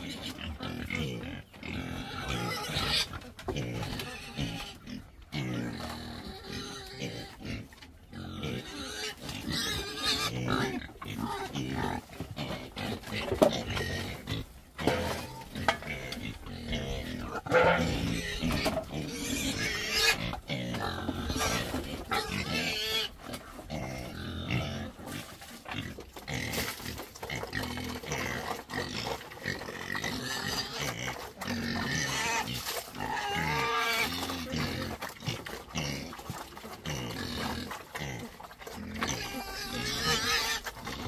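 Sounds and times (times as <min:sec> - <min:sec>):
pigs squealing and grunting: 0:00.0 - 0:41.0.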